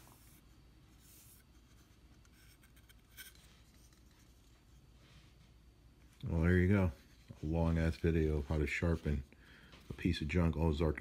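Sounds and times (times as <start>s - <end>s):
faint scratchy rustles of handling: 0.0s - 11.0s.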